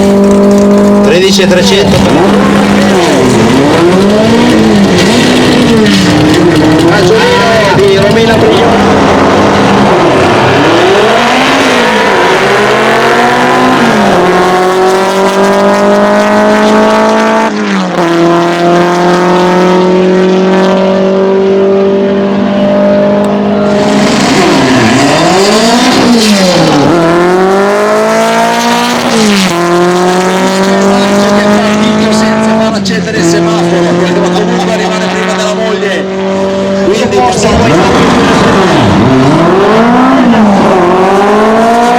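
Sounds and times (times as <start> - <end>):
car engine revving hard: 0.0 - 41.9.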